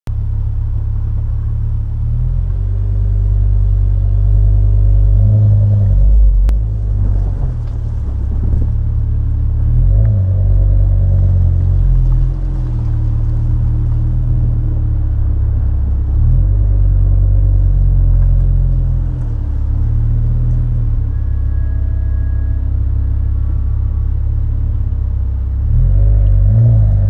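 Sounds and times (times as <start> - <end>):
deep exhaust drone: 0.1 - 27.0.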